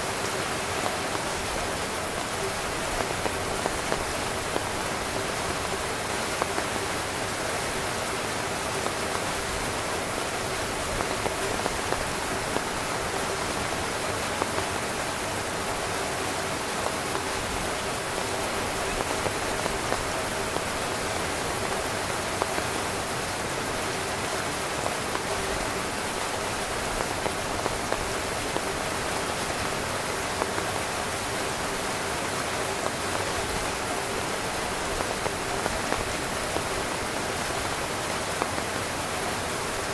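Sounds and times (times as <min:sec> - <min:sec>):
heavy rain on a tent: 0:00.0 - 0:39.9
individual raindrops hitting: 0:00.0 - 0:39.9.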